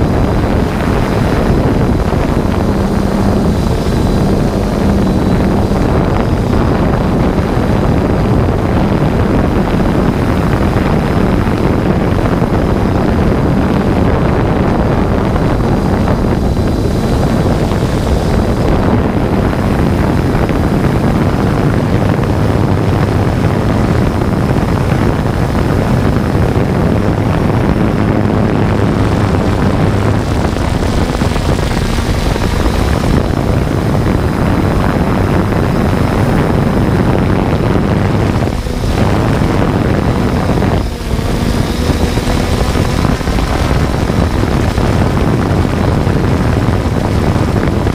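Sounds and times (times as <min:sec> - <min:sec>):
drone propellers whirring: 0:00.0 - 0:47.9
low motor hum: 0:00.0 - 0:47.9.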